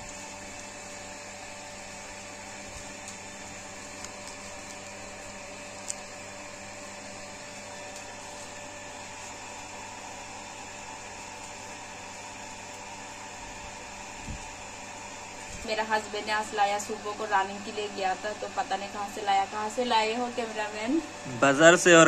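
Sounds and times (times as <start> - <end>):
machine hum and whir: 0.0 - 22.0.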